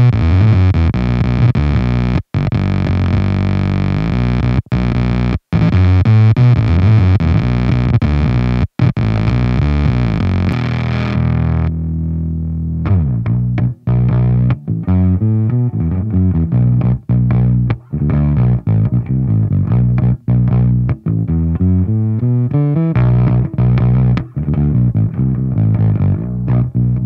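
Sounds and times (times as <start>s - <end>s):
fuzzed bass riff: 0.0s - 27.0s.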